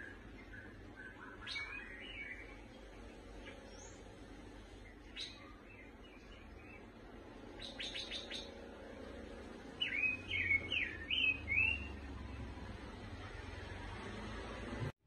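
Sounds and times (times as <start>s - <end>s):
bird chirping: 0.0s - 13.7s.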